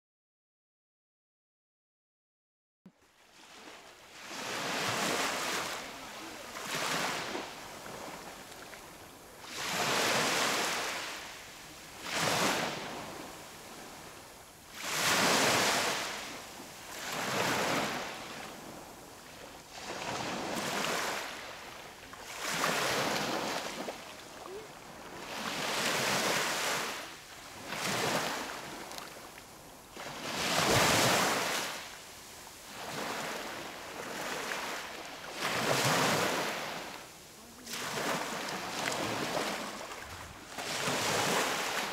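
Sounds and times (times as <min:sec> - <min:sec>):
waves washing in: 0:03.2 - 0:41.9.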